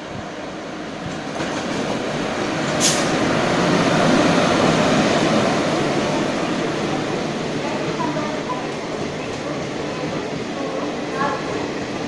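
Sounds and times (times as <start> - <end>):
passenger train rolling past: 0.0 - 12.0.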